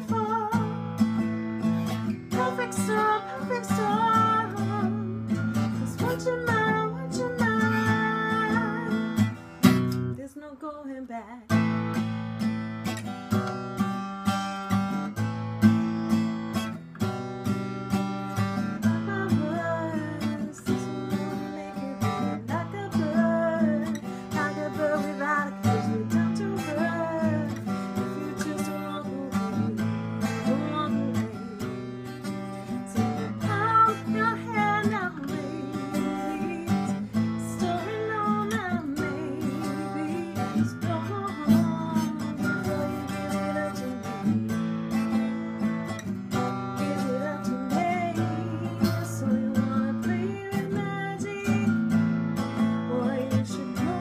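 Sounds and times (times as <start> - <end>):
acoustic guitar strumming: 0.0 - 10.2, 11.4 - 54.0
woman singing: 0.0 - 12.5, 17.5 - 54.0.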